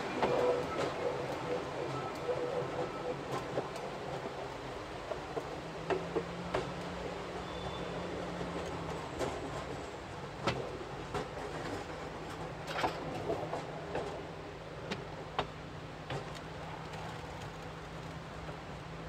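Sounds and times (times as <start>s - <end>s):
train running hum: 0.0s - 19.0s.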